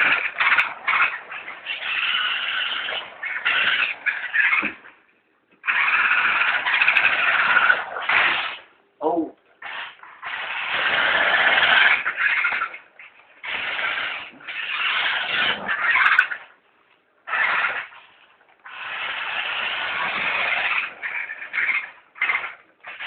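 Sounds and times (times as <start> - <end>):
toy car motor whirring: 0.0 - 4.7, 5.6 - 8.7, 9.6 - 16.4, 17.3 - 23.0.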